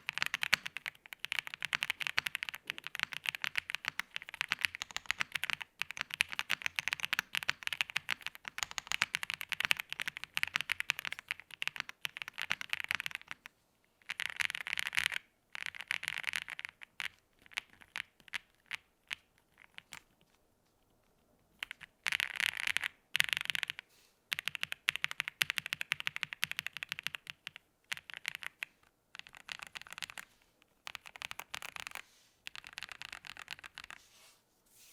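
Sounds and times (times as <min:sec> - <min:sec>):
mechanical keyboard typing: 0:00.0 - 0:20.1, 0:21.6 - 0:34.0.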